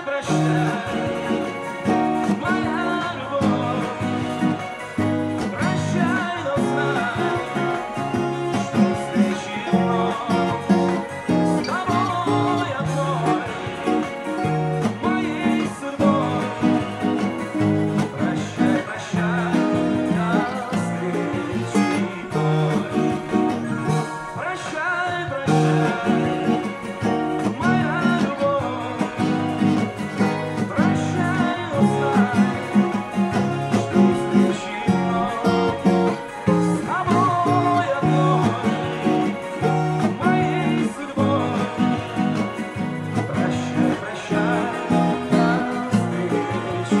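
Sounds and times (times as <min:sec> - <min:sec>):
acoustic guitar chords: 0:00.0 - 0:47.0
person singing: 0:00.0 - 0:47.0.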